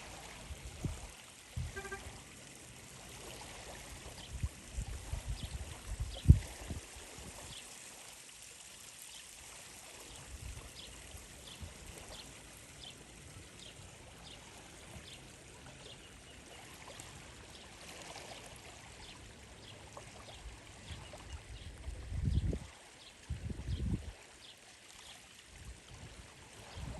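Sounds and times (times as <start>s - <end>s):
faint running water: 0.0s - 26.9s.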